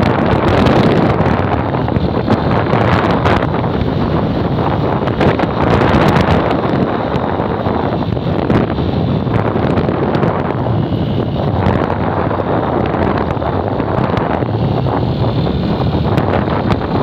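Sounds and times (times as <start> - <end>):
vehicle and road noise: 0.0 - 17.0
wind buffeting microphone: 0.0 - 17.0.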